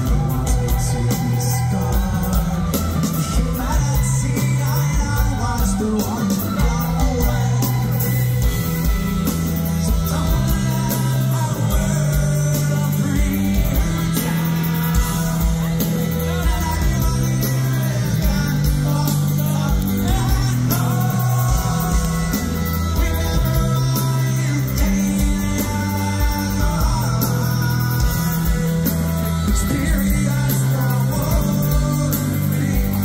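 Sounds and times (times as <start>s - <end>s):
bass line: 0.0s - 33.0s
drums and cymbals: 0.0s - 33.0s
lead singer: 0.0s - 33.0s
live rock band: 0.0s - 33.0s.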